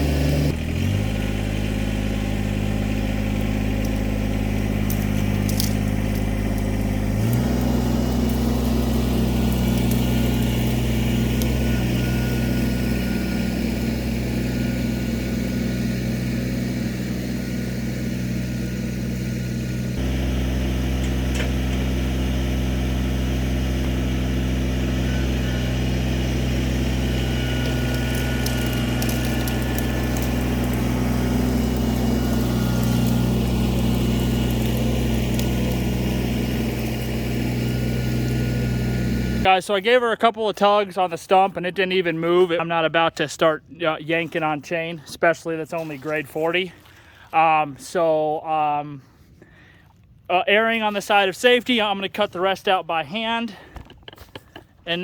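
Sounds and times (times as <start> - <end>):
tractor diesel engine running: 0.0 - 49.9, 50.5 - 55.0.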